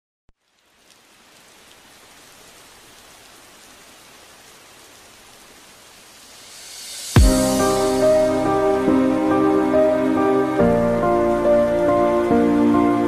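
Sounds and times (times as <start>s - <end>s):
steady rain hiss: 0.3s - 13.0s.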